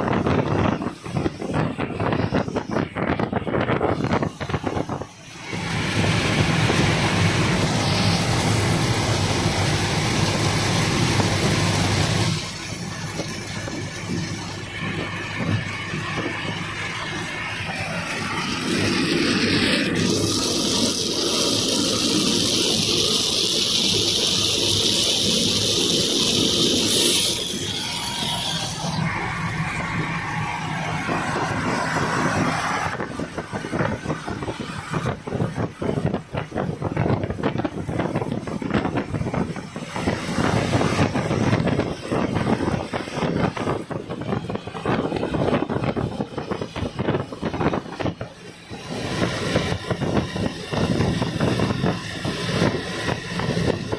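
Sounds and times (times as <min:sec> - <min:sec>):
vehicle moving in heavy rain: 0:00.0 - 0:53.9.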